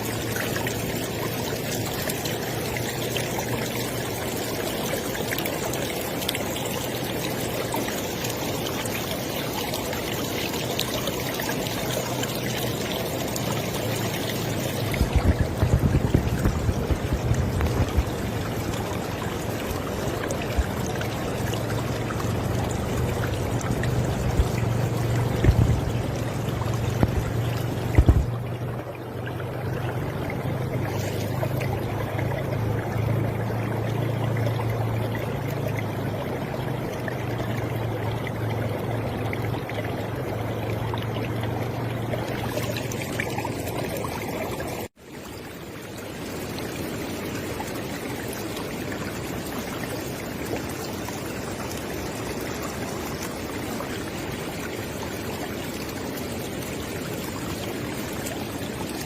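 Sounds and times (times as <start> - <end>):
river water rushing: 0.0 - 59.0
water splashes: 0.0 - 59.0.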